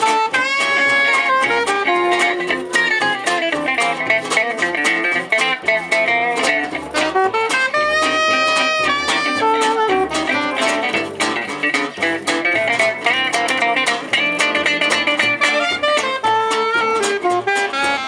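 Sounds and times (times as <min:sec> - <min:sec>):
gypsy jazz band playing: 0:00.0 - 0:18.0
strummed guitar: 0:00.0 - 0:18.0.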